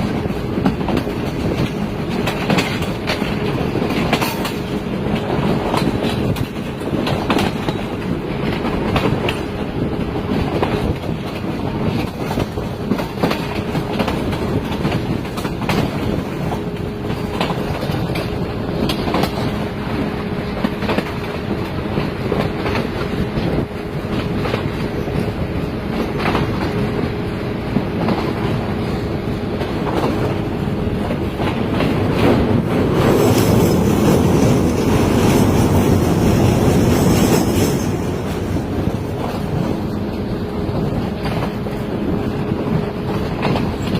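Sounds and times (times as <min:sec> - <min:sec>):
train wheels clicking over rail joints: 0:00.0 - 0:43.9.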